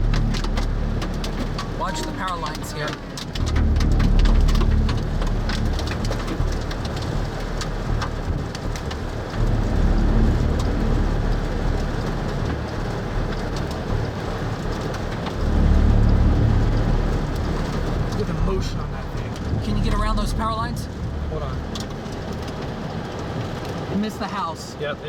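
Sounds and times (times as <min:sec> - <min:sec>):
low rumble: 0:00.0 - 0:23.9
heavy rain striking vehicle: 0:00.0 - 0:25.0.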